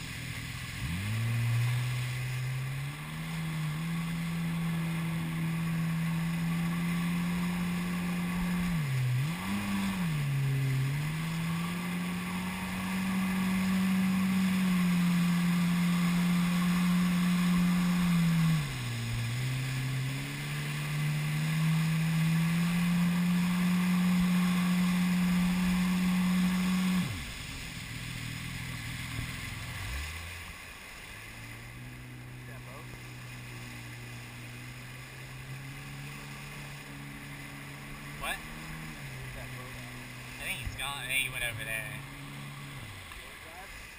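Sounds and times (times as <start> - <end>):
jet ski engine droning: 0.0 - 43.9.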